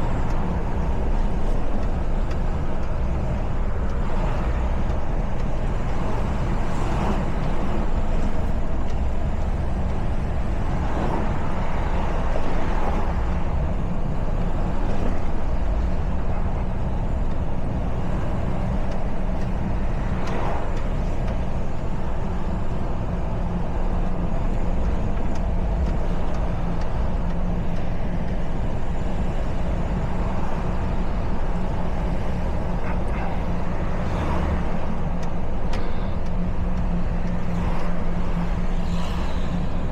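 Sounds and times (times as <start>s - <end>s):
passing traffic: 0.0s - 39.9s
road and tyre noise: 0.0s - 39.9s
truck diesel engine running: 0.0s - 39.9s.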